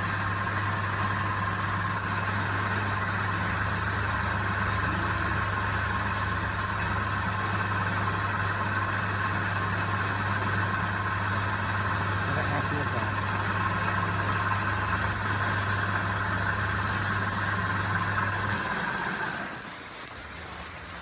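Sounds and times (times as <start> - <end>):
electric motor humming: 0.0 - 19.7.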